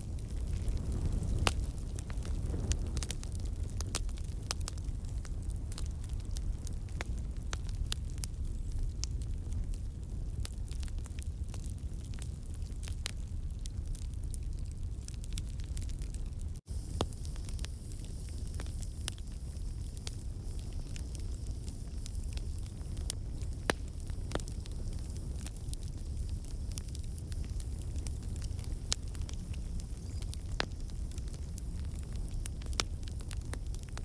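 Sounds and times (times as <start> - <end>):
low rumble of flames: 0.0 - 34.0
wood crackling and popping: 0.0 - 34.0.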